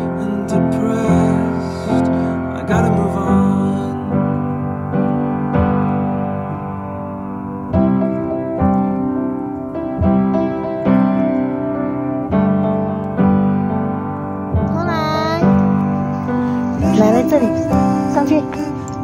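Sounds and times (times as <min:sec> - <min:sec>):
piano playing sustained chords: 0:00.0 - 0:19.0.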